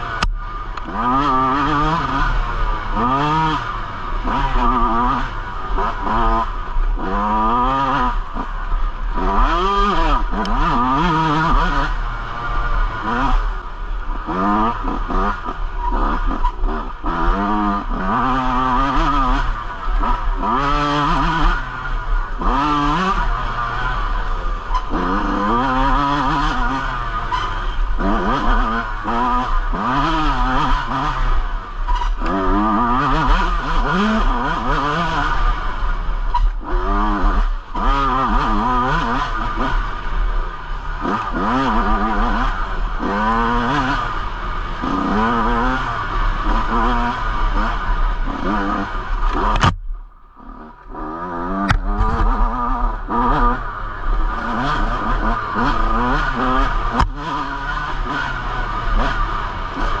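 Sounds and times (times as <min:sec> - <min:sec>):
two-stroke motorcycle engine revving: 0:00.0 - 1:00.0.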